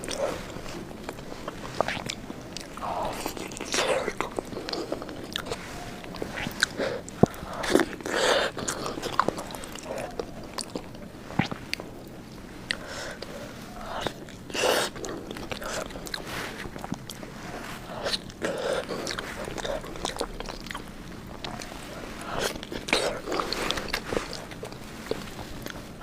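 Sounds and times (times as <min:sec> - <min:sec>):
chewing and lip smacking: 0:00.0 - 0:26.0.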